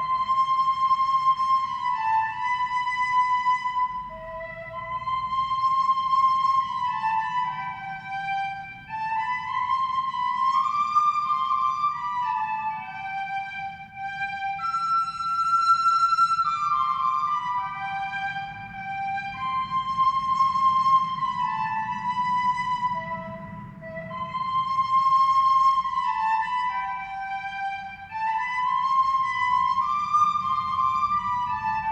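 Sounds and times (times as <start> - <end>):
slow flute-like melody: 0.0 - 31.9.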